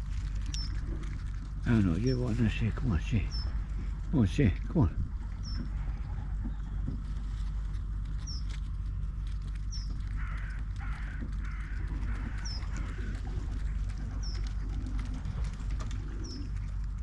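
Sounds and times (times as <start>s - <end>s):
harsh bird calls: 0.0s - 7.3s, 8.2s - 8.5s, 9.6s - 16.7s
birds chirping: 0.0s - 17.0s.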